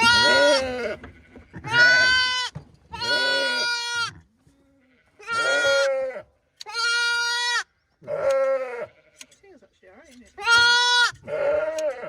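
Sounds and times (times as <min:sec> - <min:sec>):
sheep bleating: 0:00.0 - 0:09.4, 0:10.4 - 0:12.0.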